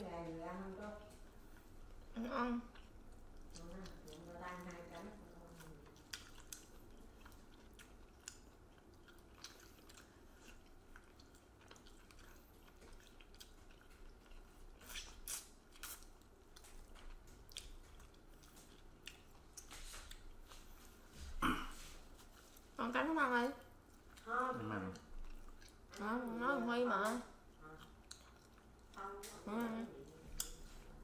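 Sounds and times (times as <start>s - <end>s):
people chewing chicken wings: 0.2s - 31.0s.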